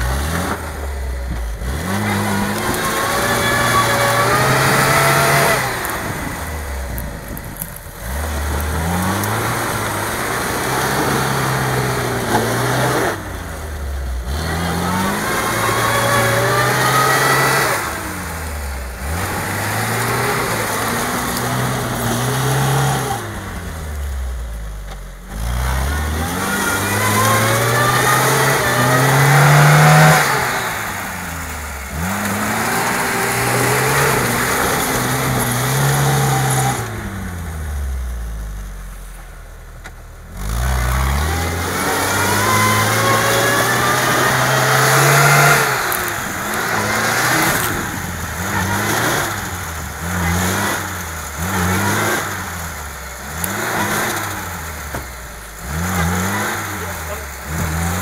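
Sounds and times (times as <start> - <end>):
car engine revving hard: 0.0 - 39.1, 40.2 - 58.0.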